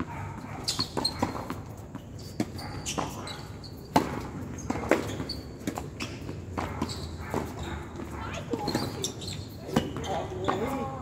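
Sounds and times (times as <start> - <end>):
racket hitting tennis ball: 0.0 - 10.7
tennis ball bouncing on hard court: 0.0 - 11.0.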